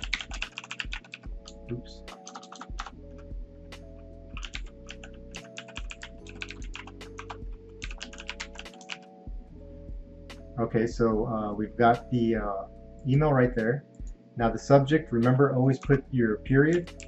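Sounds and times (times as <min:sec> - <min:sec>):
background music with chords: 0:00.0 - 0:17.0.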